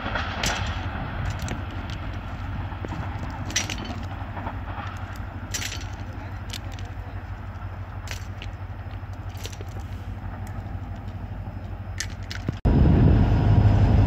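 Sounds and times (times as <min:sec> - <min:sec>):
train wheels clicking: 0:00.0 - 0:12.6
train rumbling: 0:00.0 - 0:14.0.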